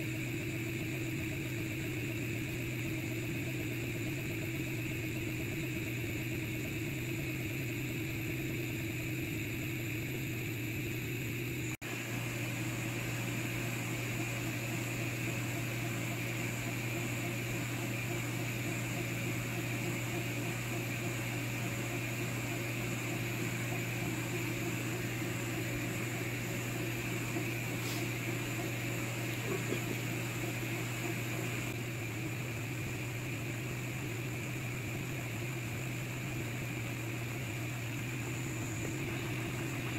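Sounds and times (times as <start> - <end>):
laser engraver humming: 0.0 - 39.9.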